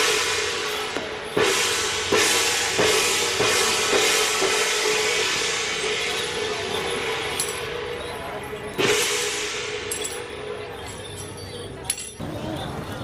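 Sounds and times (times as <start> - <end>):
cymbals crashing: 0.0 - 11.4.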